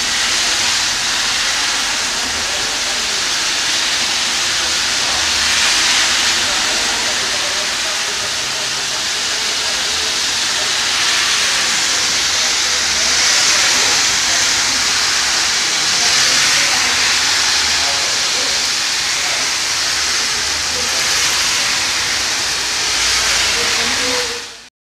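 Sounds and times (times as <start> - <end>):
heavy rain on a flooded street: 0.0 - 24.7.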